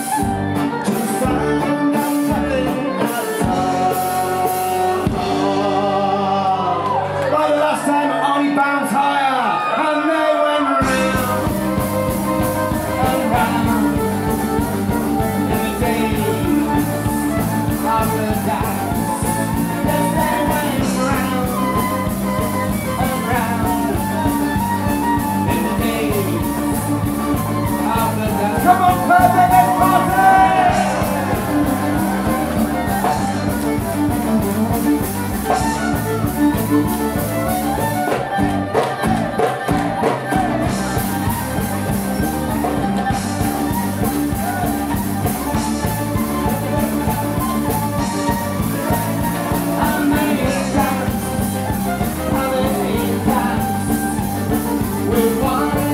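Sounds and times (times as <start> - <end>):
drum kit beat: 0.0 - 6.0, 10.8 - 55.9
fiddle melody: 0.0 - 9.0, 10.7 - 55.9.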